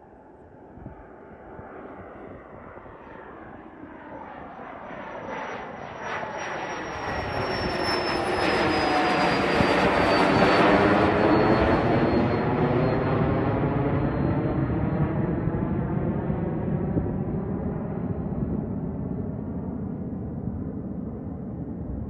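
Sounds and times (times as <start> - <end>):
jet turbine whine approaching: 0.0 - 22.0.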